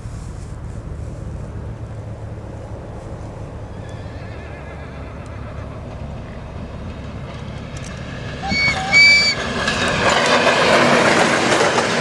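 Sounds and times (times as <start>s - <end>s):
diesel train engine rumble: 0.0s - 12.0s.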